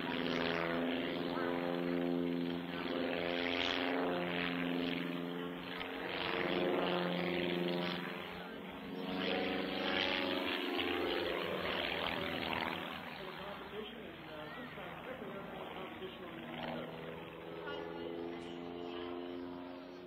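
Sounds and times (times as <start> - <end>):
propeller plane engine in flight: 0.0 - 20.0.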